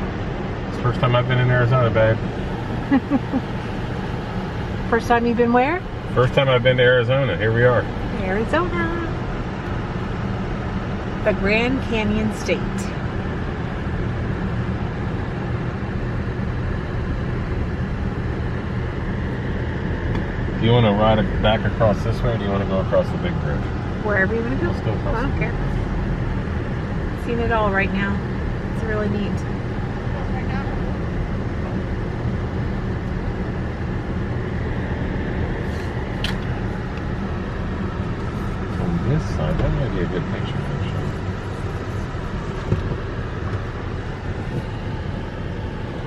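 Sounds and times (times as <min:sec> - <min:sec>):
car cabin road and engine noise: 0:00.0 - 0:46.0.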